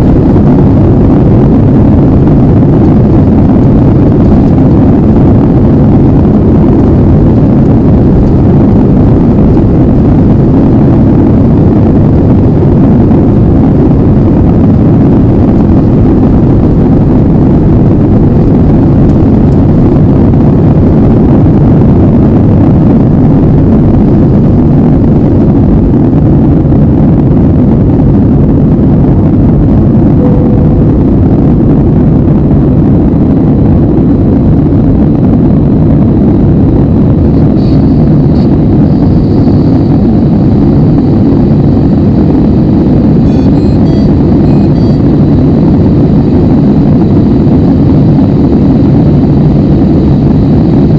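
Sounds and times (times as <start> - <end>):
jet engine cabin rush: 0.0 - 50.9.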